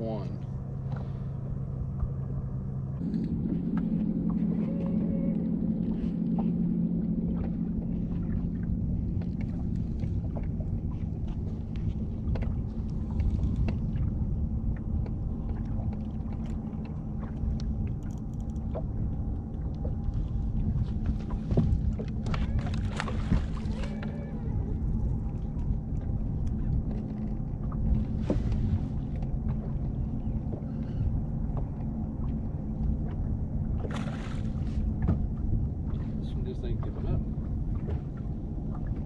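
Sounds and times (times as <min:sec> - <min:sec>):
low mechanical hum: 0:00.0 - 0:39.0
water lapping against hull: 0:00.0 - 0:39.0.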